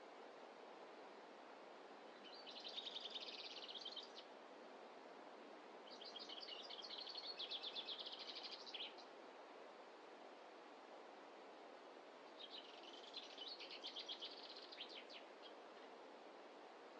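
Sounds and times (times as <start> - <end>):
forest background hiss: 0.0 - 16.9.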